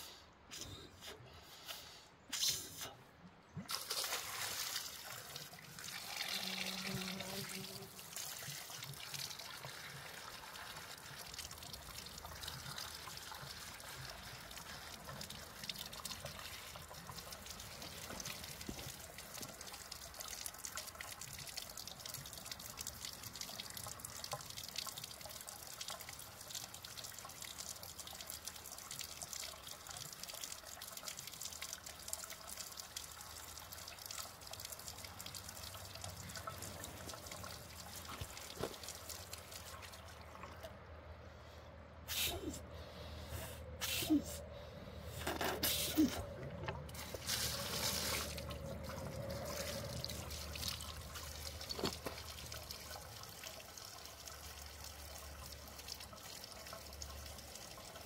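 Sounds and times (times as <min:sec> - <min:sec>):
water trickling among rocks: 0:03.4 - 0:41.2, 0:45.0 - 0:58.0.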